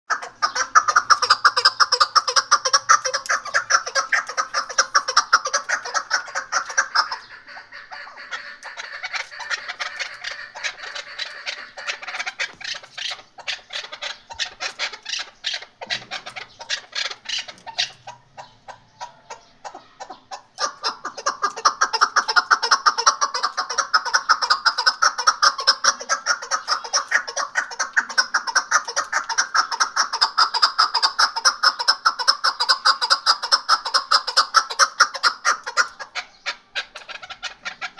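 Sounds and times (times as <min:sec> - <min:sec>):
partridge clucking calls: 0:00.1 - 0:37.9.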